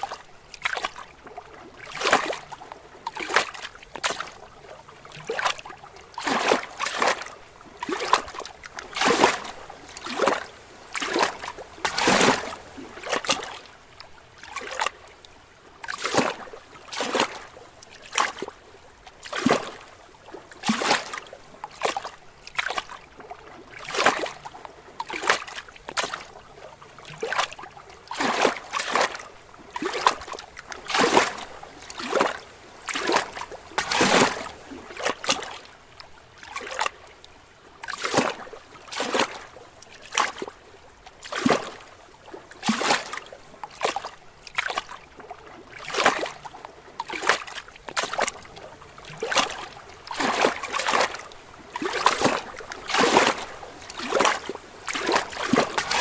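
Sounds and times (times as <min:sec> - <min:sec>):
waves lapping against rocks: 0:00.0 - 0:56.0.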